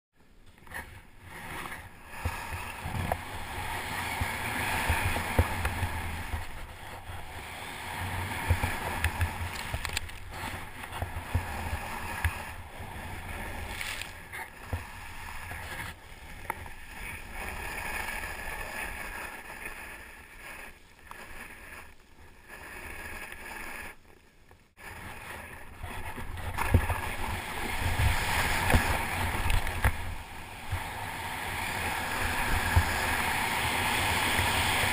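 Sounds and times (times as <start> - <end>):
snowboard hissing through snow: 1.3 - 24.0, 24.9 - 34.9.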